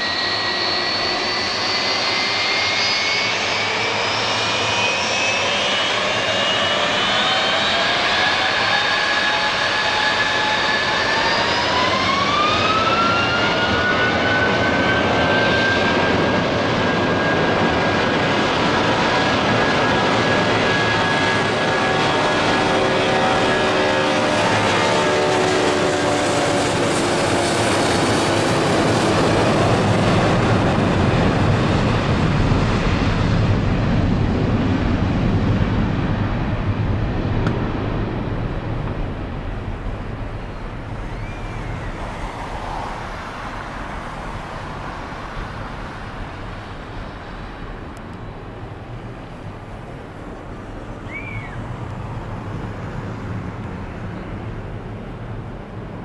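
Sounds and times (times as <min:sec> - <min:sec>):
jet engines spooling up: 0:00.0 - 0:55.5.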